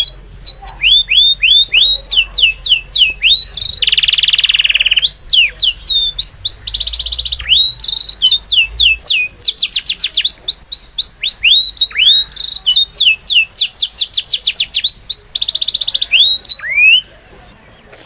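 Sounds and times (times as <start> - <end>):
bird song with high whistled notes: 0.0 - 18.0
bird trill: 0.0 - 18.0.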